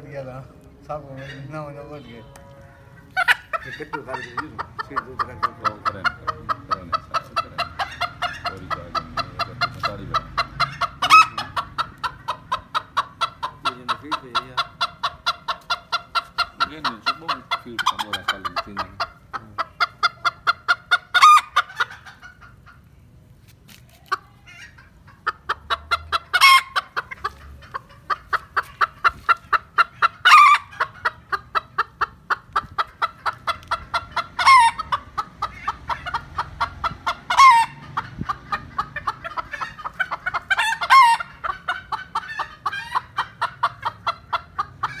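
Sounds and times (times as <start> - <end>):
chickens clucking: 0.0 - 45.0.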